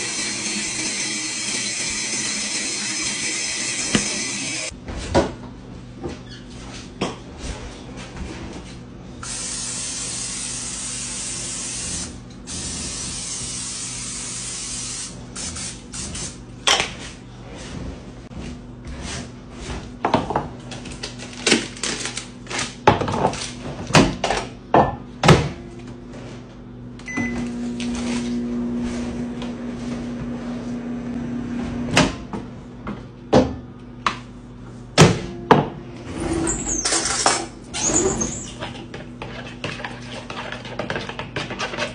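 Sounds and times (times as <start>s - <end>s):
microwave oven humming: 0.0s - 39.2s.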